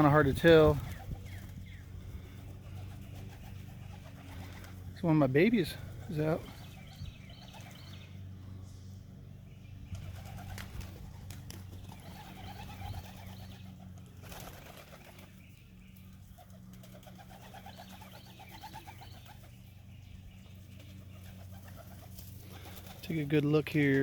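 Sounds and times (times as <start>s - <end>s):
pigeons cooing: 0.0s - 24.0s
steady low hum: 0.0s - 24.0s.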